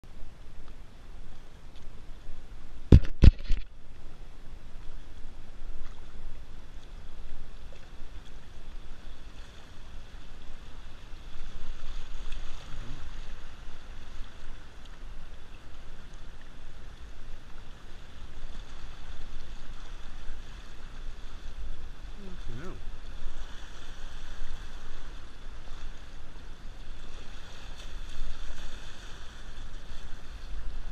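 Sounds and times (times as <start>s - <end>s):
river water rushing: 3.8s - 30.9s
paddles dipping into water: 4.7s - 30.9s.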